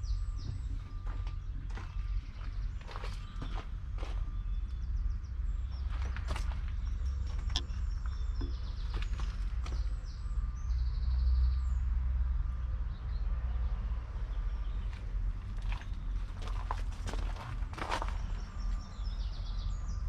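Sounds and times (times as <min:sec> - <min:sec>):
birds chirping: 0:00.0 - 0:11.9, 0:12.9 - 0:20.0
tractor diesel engine rumble: 0:00.0 - 0:19.9.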